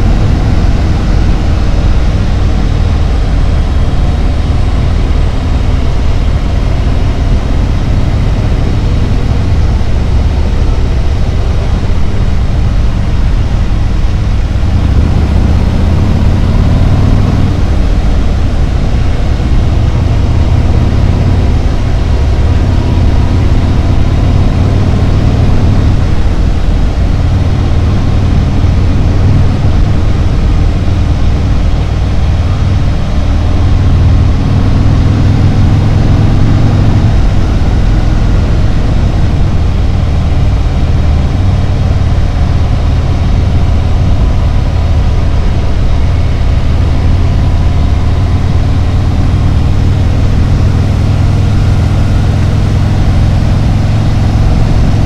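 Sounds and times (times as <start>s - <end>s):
motorcycle engine running: 0.0s - 55.0s
road noise rush: 0.0s - 55.0s.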